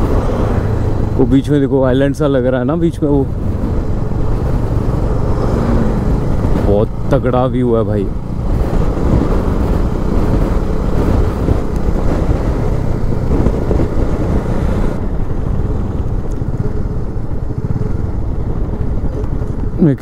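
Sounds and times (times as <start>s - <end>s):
wind noise: 0.0s - 20.0s
motorcycle engine running: 2.6s - 19.8s.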